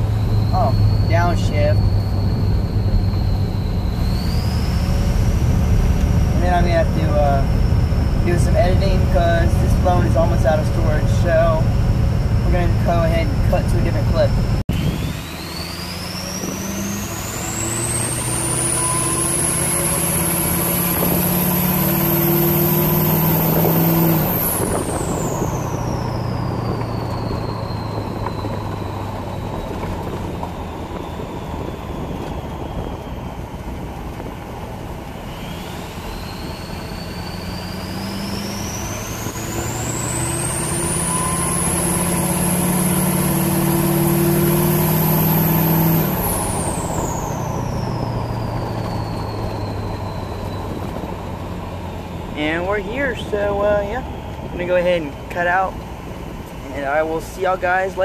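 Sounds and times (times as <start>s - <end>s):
diesel engine accelerating: 0.0s - 58.0s
turbo whistling: 0.0s - 58.0s.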